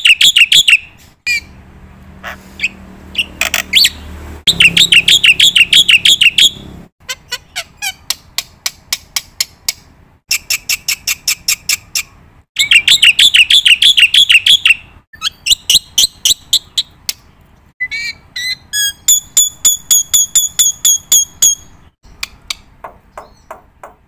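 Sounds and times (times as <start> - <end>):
bird song: 0.0 - 1.6, 2.2 - 24.0.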